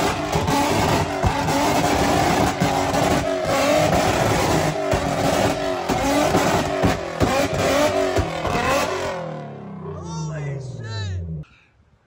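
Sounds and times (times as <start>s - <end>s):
car engine revving hard: 0.0s - 9.8s
loud exhaust bangs: 0.0s - 9.8s.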